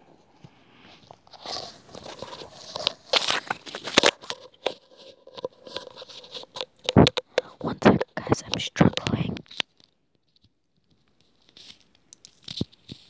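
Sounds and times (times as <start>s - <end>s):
earbud cord crackling and rustling: 0.3s - 13.0s.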